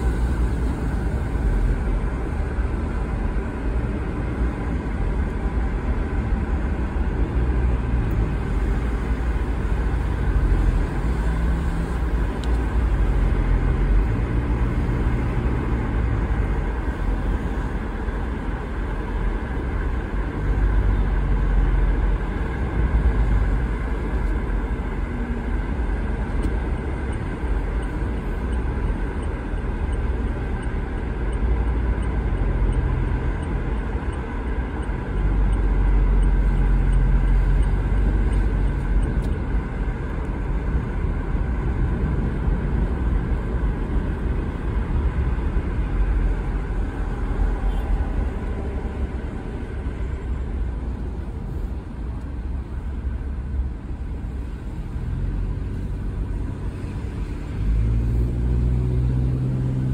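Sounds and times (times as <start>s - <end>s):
vehicle driving on highway: 0.0s - 59.9s.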